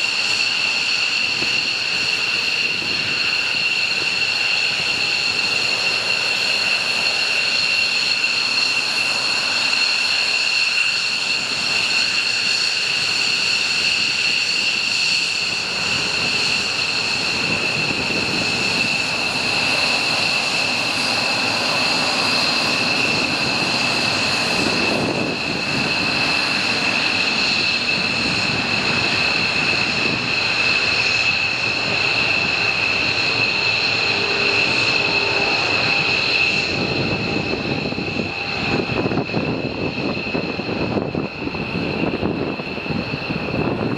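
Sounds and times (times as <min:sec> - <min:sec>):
jet engines whining: 0:00.0 - 0:43.9.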